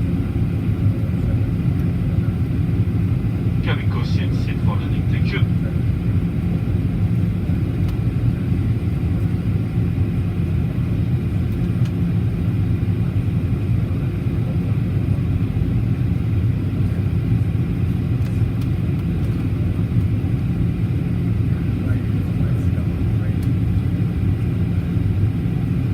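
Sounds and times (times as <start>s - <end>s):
airplane cabin engine rumble: 0.0s - 25.9s.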